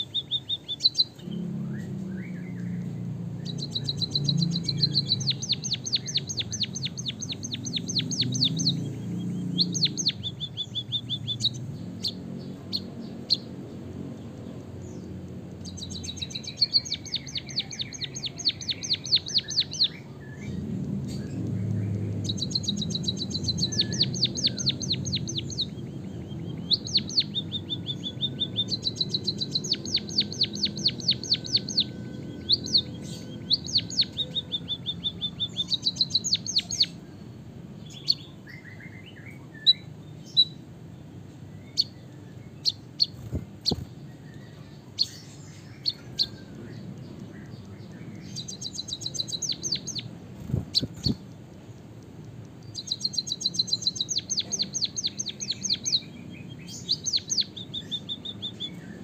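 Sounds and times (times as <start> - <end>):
caged bird singing trilled rolls: 0.0 - 59.0.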